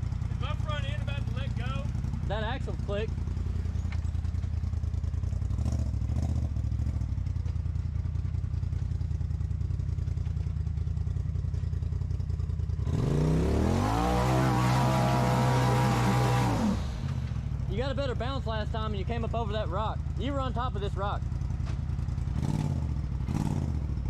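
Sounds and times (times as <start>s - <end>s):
vehicle engine idling and revving: 0.0s - 24.0s.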